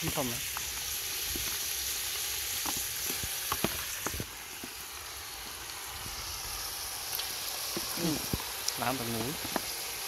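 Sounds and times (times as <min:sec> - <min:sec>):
meat sizzling in oil: 0:00.0 - 0:10.0
sharp pops of frying: 0:00.0 - 0:10.0.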